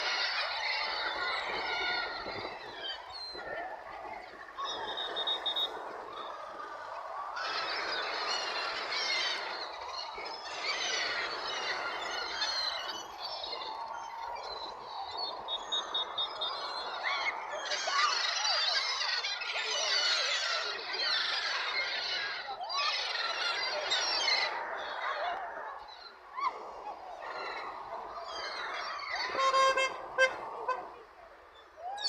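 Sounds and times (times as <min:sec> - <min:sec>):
young birds cheeping: 0:00.0 - 0:32.0.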